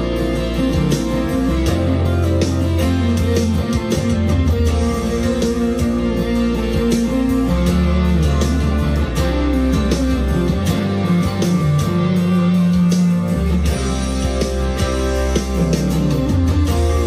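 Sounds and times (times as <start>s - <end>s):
bass: 0.0s - 17.0s
drums: 0.0s - 17.0s
electric guitar lead with bends: 0.0s - 17.0s
slow ballad backing track: 0.0s - 17.0s.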